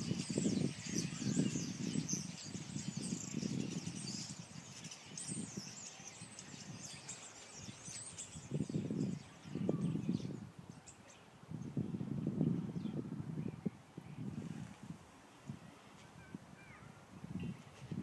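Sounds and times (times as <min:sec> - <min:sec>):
small birds chirping: 0:00.0 - 0:14.4.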